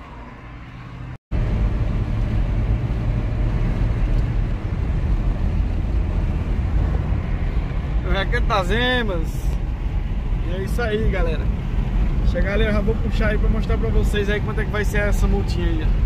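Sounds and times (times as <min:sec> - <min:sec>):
car cabin road and wind noise: 0:00.0 - 0:16.0.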